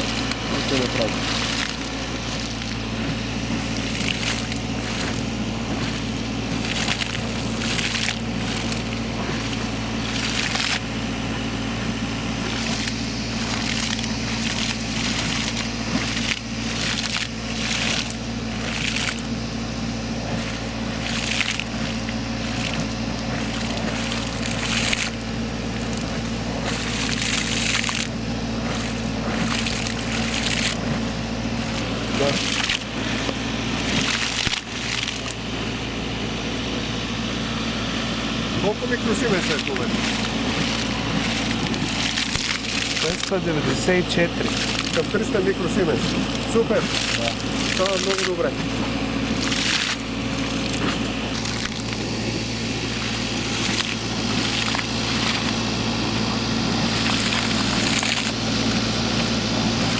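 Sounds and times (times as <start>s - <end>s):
engine drone: 0.0s - 59.9s
water and air splashing: 0.0s - 59.9s.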